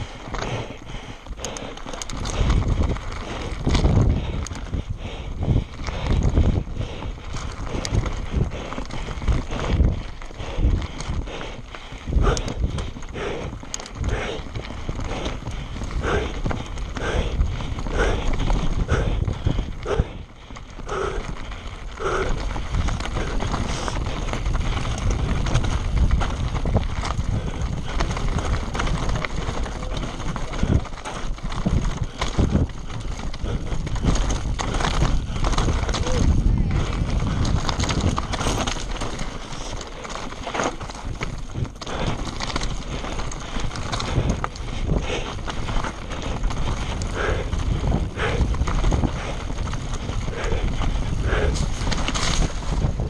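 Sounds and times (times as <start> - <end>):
bike chain and frame rattling: 0.0 - 53.0
bike tyres crunching over stones: 0.0 - 53.0
wind on microphone: 0.0 - 53.0.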